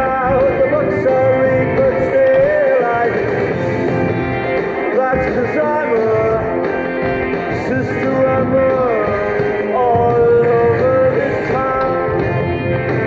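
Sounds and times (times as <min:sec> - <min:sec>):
song with sliding melody: 0:00.0 - 0:13.0.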